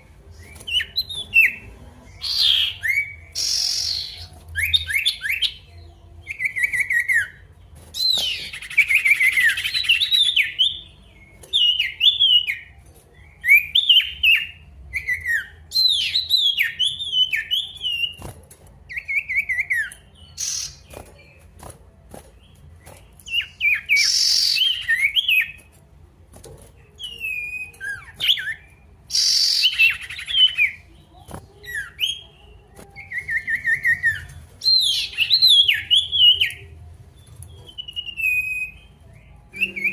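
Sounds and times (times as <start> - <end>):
bird whistling song: 0.0 - 1.6, 2.2 - 12.7, 13.3 - 18.3, 18.9 - 21.1, 22.9 - 25.7, 27.0 - 30.9, 33.0 - 39.9.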